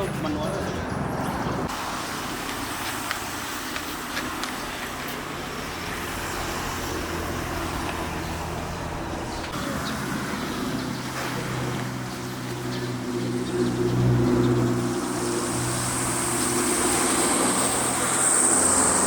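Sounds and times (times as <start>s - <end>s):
road noise: 0.0s - 19.0s
truck engine running: 0.8s - 19.0s.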